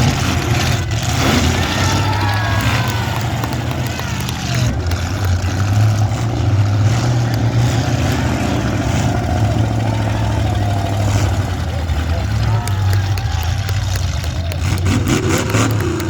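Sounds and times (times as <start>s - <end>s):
demolition derby car engines revving: 0.0s - 16.0s.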